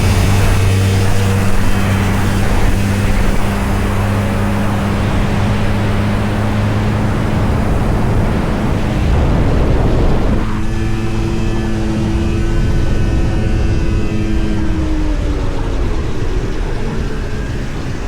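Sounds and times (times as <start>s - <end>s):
snowmobile engine droning: 0.0s - 18.0s
track and wind rushing: 0.0s - 18.0s.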